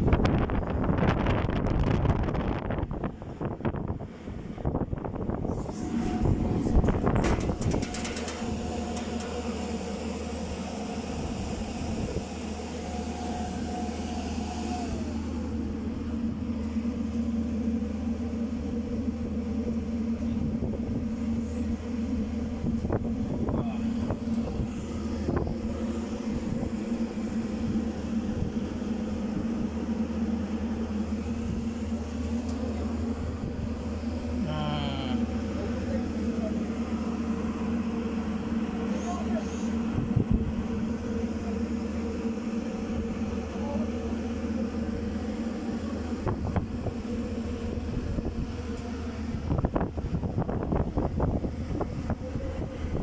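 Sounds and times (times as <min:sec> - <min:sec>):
electrical hum and drone: 0:00.0 - 0:53.0
whine sliding down in pitch: 0:05.2 - 0:53.0.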